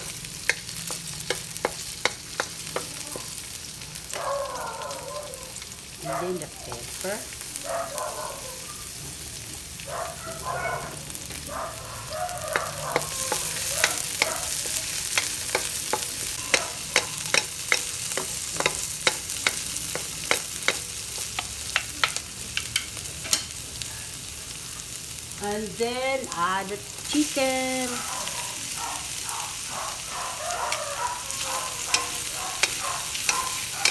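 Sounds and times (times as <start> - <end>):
vegetables sizzling in oil: 0.0 - 33.9.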